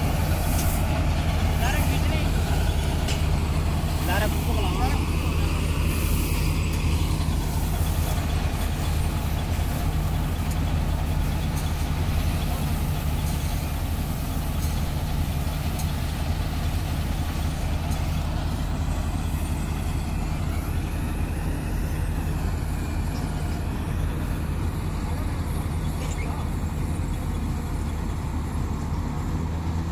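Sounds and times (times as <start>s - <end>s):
diesel engine droning: 0.0s - 29.9s.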